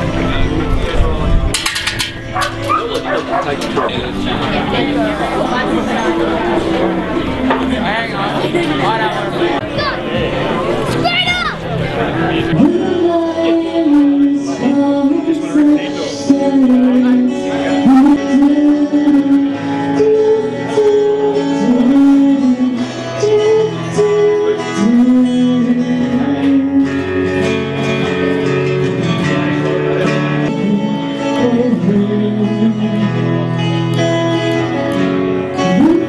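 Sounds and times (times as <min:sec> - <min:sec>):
plucked string music: 0:00.0 - 0:36.0.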